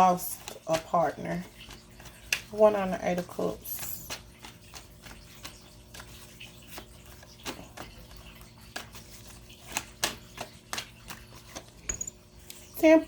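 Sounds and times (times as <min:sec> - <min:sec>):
cards clicking and tapping: 0:00.0 - 0:02.5, 0:03.8 - 0:12.6.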